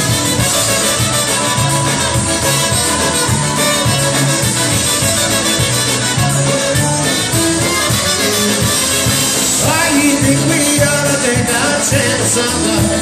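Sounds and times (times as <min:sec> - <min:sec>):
trumpets playing: 0:00.0 - 0:11.0
bass beat: 0:00.0 - 0:13.0
drums: 0:00.0 - 0:13.0.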